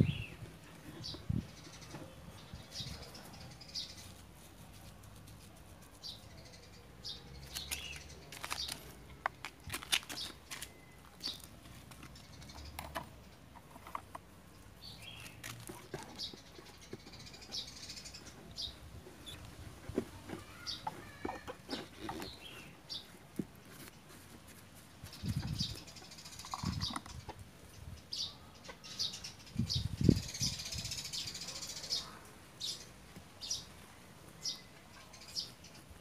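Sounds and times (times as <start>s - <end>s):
rustling potting mix: 0.0s - 28.0s, 28.8s - 36.0s.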